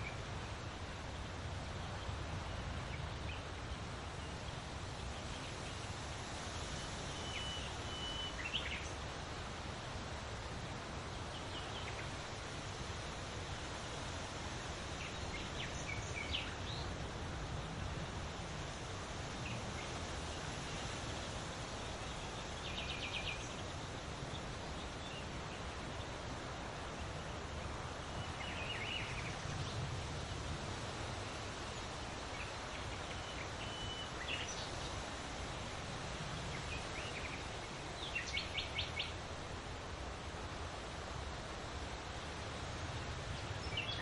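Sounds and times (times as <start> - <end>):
wind rustling leaves: 0.0 - 44.0.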